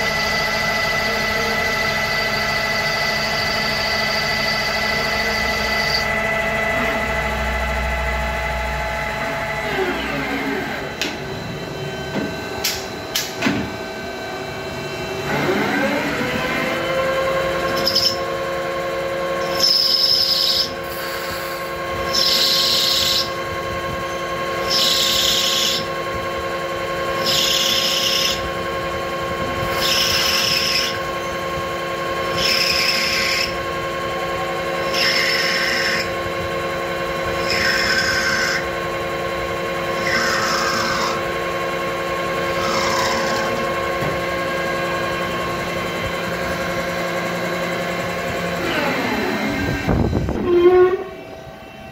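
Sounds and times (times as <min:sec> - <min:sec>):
lathe spindle whine: 0:00.0 - 0:51.9.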